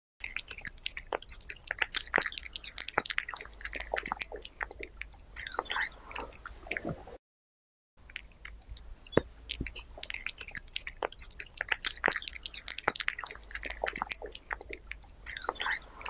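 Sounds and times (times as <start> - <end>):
cat chewing raw meat: 0.2 - 7.1, 8.0 - 16.0.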